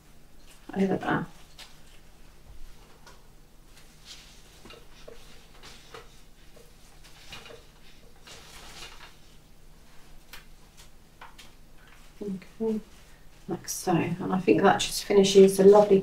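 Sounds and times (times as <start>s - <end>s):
flower stems rustling: 0.4s - 16.0s.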